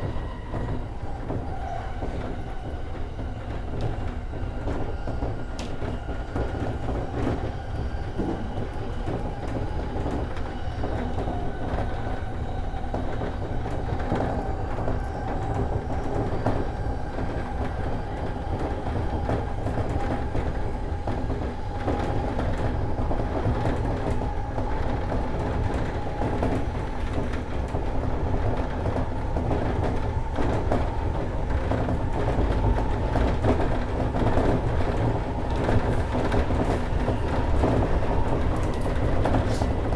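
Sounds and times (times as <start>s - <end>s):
steady train hum: 0.0s - 39.9s
train wheels rumbling on rail: 0.0s - 39.9s.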